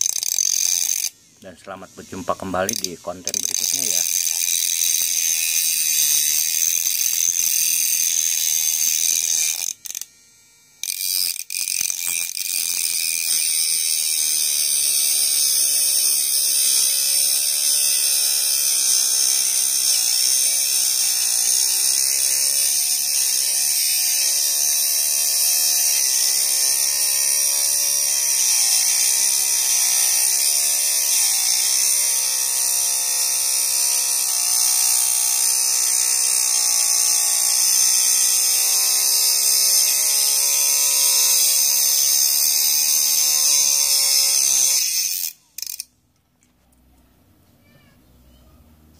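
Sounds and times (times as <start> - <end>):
mini grinder cutting a nail: 0.0 - 46.9.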